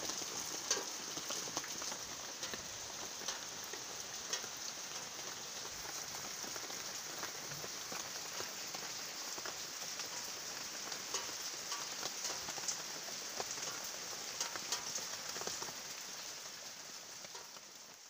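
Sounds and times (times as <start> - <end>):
drops ticking on leaves: 0.0 - 18.0
rain falling on leaves: 0.0 - 18.0.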